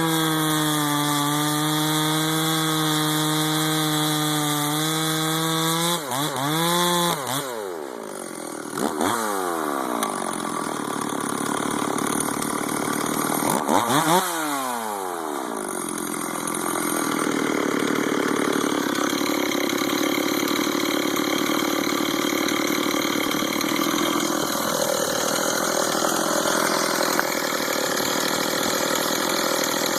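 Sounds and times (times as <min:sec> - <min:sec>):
chainsaw revving: 0:00.0 - 0:29.9.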